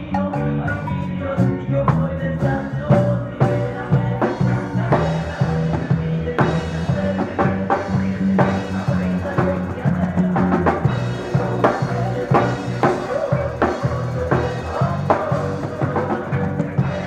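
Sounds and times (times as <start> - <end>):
bass guitar notes: 0.0 - 17.0
reggae band playing: 0.0 - 17.0.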